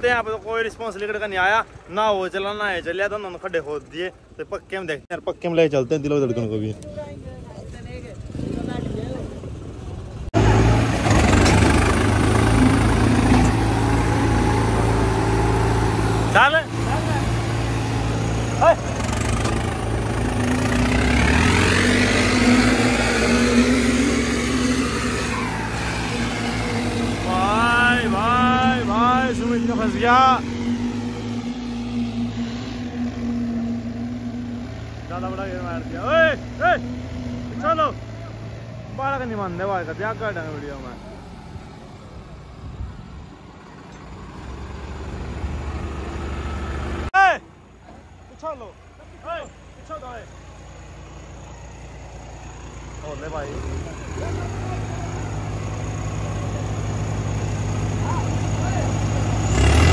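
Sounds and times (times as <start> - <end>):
diesel tractor engines under load: 0.0 - 59.9.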